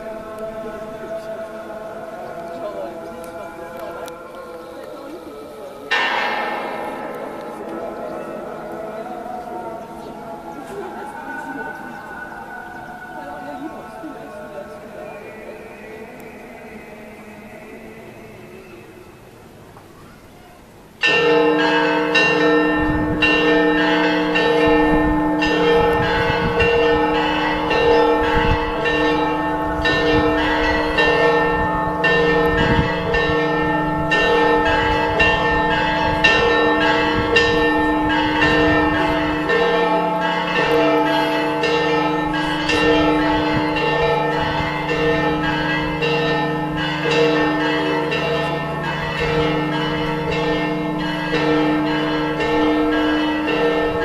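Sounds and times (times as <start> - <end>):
church bells pealing: 0.0 - 19.2, 21.0 - 54.0.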